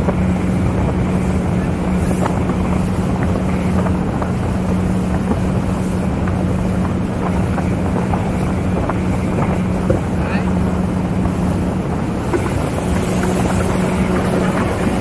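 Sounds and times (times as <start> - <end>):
motorboat engine humming: 0.0 - 15.0
water rushing along hull: 0.0 - 15.0
wind buffeting microphone: 0.0 - 15.0.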